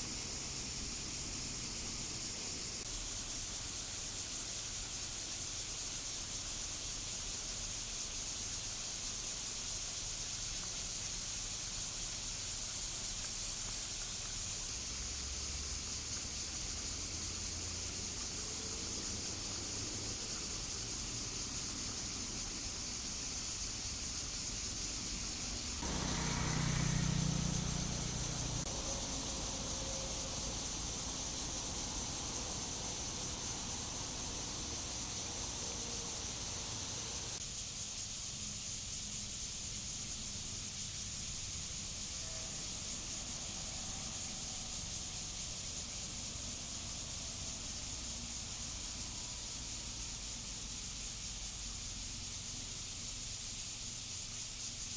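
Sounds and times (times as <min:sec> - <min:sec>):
cicadas singing: 0:00.0 - 0:54.9.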